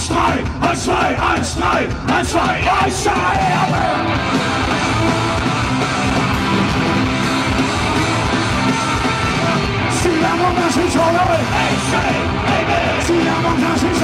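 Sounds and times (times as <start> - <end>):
punk rock band playing: 0.0 - 14.0.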